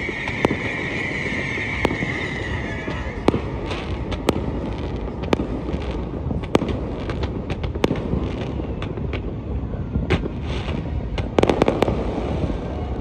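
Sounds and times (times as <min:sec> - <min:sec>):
fireworks cracking and popping: 0:00.0 - 0:13.0
low rumble: 0:00.2 - 0:13.0.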